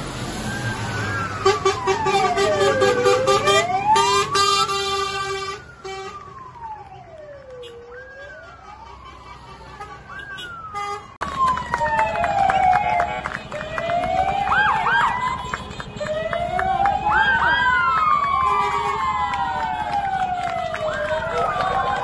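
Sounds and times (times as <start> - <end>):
fire engine sirens wailing: 0.0 - 22.0.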